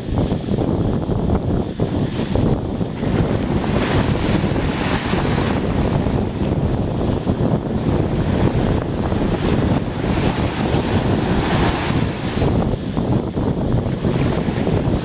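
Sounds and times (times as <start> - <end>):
wind rumbling on microphone: 0.0 - 15.0
small waves breaking on sand: 1.8 - 15.0.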